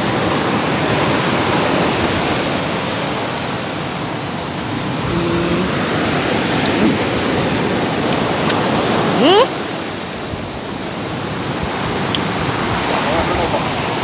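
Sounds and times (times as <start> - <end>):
steady rushing outdoor noise: 0.0 - 14.0.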